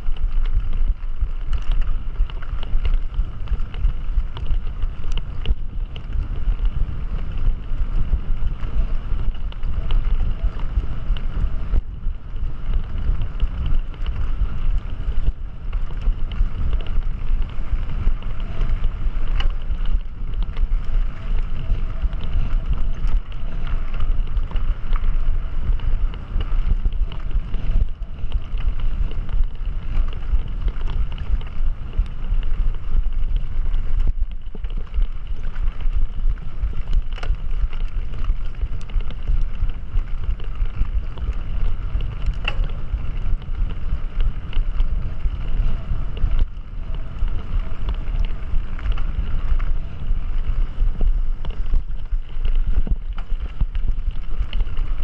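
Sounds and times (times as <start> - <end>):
steady low rumble: 0.0 - 55.0
wind buffeting microphone: 0.0 - 55.0.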